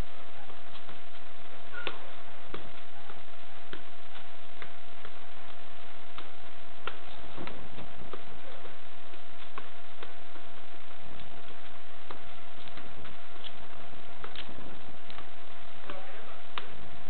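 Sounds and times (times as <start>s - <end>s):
bare feet tapping a football: 0.0s - 17.0s
faint constant hum: 0.0s - 17.0s
loud steady hiss: 0.0s - 17.0s.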